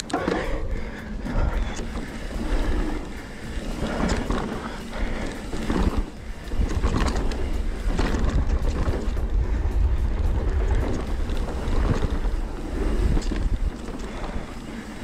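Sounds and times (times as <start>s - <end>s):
bike clattering over bumps: 0.0s - 15.0s
bike tyres on dirt: 0.0s - 15.0s
wind buffeting microphone: 0.0s - 15.0s.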